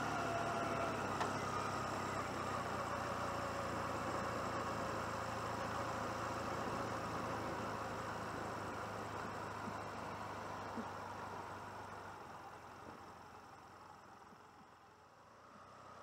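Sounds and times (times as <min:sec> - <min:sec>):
motorcycle engine running: 0:00.0 - 0:15.9
road noise: 0:00.0 - 0:16.0.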